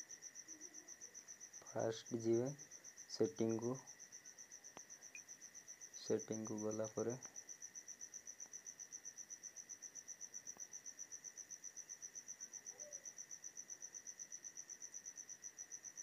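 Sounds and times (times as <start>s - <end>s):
cricket chirping: 0.0s - 16.0s
faint steady hum: 0.0s - 16.0s.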